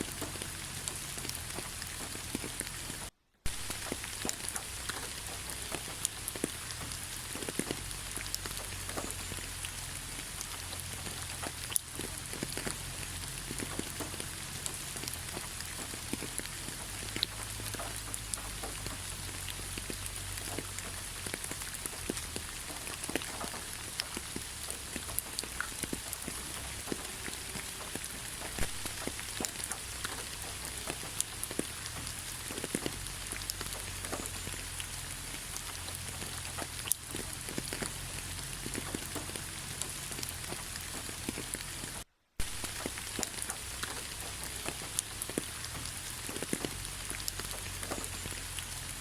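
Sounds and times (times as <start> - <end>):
rain hiss in forest: 0.0 - 49.0
raindrops tapping: 0.0 - 49.0.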